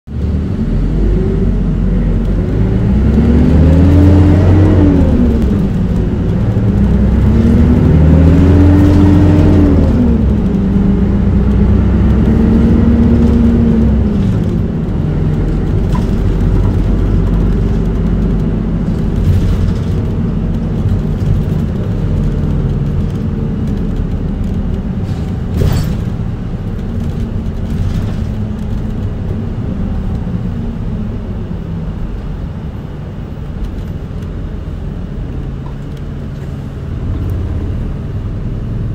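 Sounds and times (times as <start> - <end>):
bus engine pulling away: 0.1 - 38.9.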